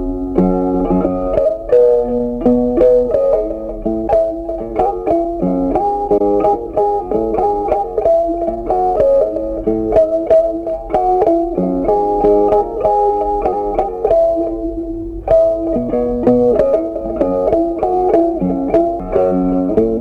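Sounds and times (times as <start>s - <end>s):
plucked-string melody: 0.0s - 20.0s.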